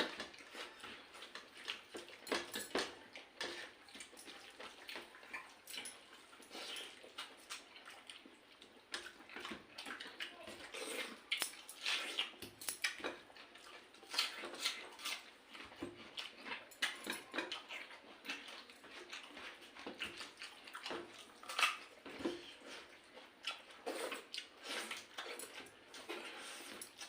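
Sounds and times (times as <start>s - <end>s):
wet eating sounds: 0.0s - 27.0s.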